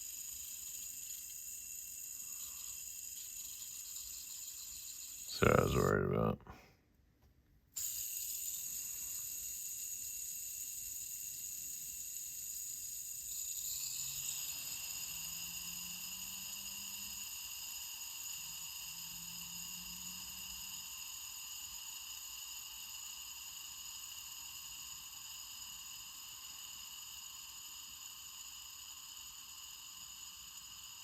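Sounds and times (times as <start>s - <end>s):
fidget spinner whirring: 0.0s - 6.0s, 7.8s - 31.0s.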